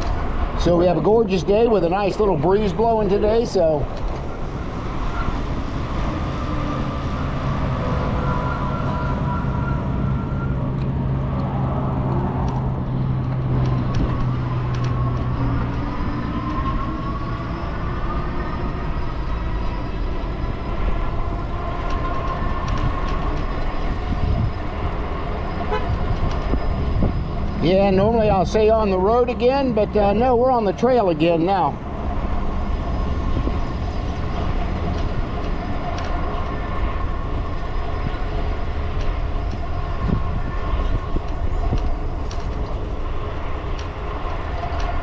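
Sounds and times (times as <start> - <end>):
tyre noise on pavement: 0.0 - 45.0
wind rushing over microphone: 0.0 - 45.0.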